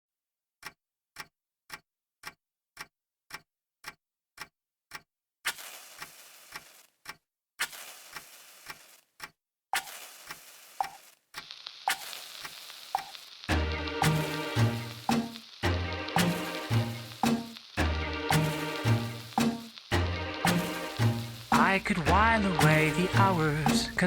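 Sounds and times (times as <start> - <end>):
clock-like ticking: 0.6 - 5.1, 6.0 - 7.2, 8.1 - 24.0.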